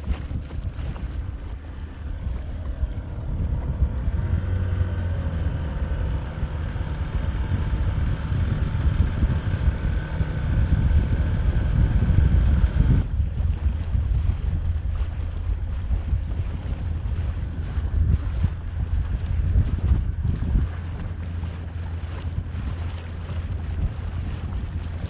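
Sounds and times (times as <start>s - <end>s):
outboard motor running: 0.0s - 25.0s
wind rumbling on microphone: 0.0s - 25.0s.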